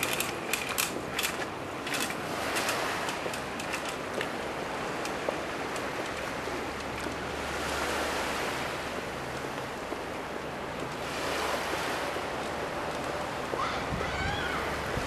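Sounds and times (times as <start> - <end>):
small waves washing onto beach: 0.0 - 15.0.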